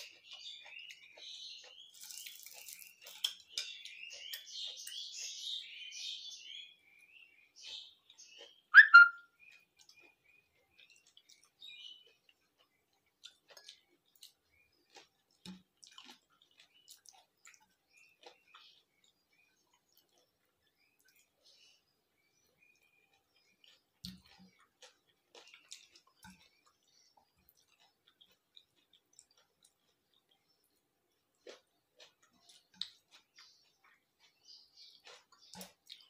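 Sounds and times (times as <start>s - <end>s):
birds chirping: 3.4s - 15.2s, 16.2s - 36.0s.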